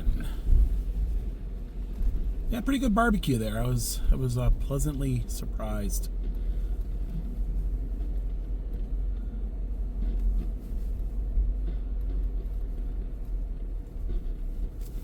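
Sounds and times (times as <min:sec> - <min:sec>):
car engine: 0:00.0 - 0:15.0
car tyres rumbling on road: 0:00.0 - 0:15.0.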